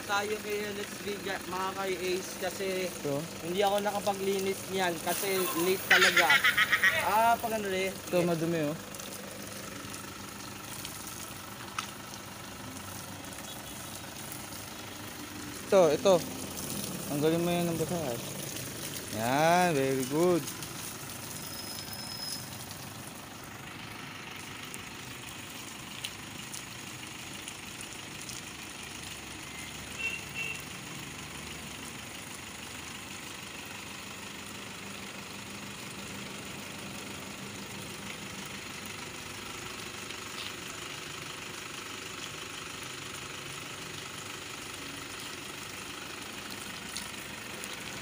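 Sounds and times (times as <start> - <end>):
hose water spraying on car: 0.0 - 48.0.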